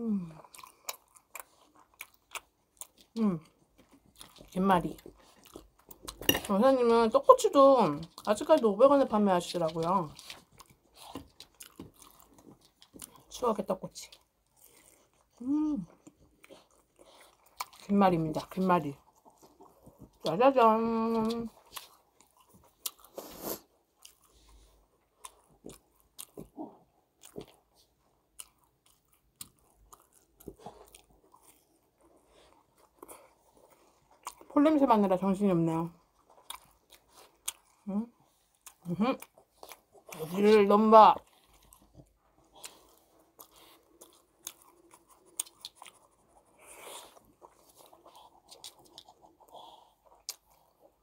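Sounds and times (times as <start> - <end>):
chewing and biting snacks: 0.2 - 51.0.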